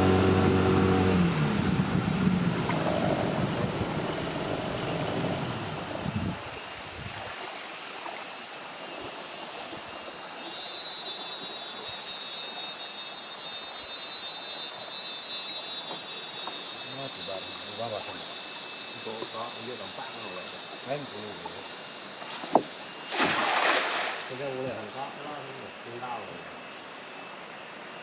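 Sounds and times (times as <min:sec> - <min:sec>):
insects buzzing: 0:00.0 - 0:28.0
low pulsing insect call: 0:00.0 - 0:28.0.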